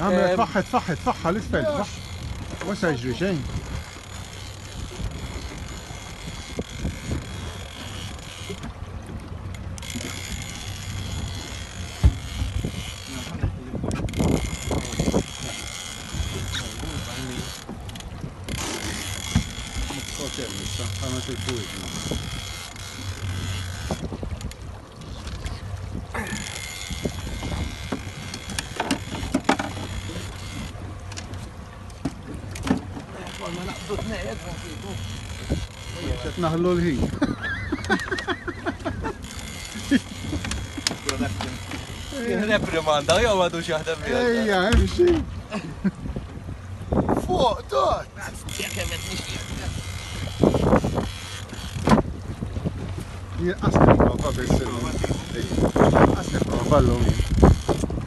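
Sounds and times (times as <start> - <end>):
fishing reel ticking whir: 0.0 - 44.8, 48.2 - 58.0
boat engine humming low: 0.0 - 58.0.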